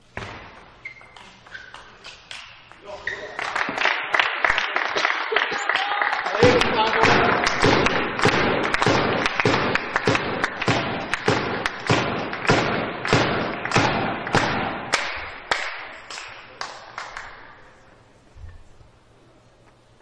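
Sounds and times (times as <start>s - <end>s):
spectators clapping in rhythm: 1.7s - 17.8s.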